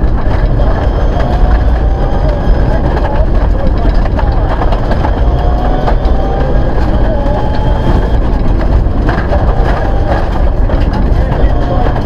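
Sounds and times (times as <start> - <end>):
car engine rumbling: 0.0 - 12.0
gravel clicking against car underside: 0.0 - 12.0.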